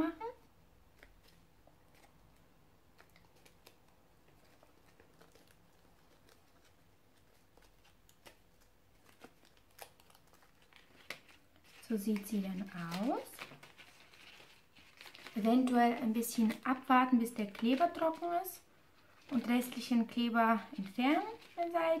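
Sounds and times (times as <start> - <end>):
paper rustling and crinkling: 0.9 - 2.4, 3.0 - 22.0.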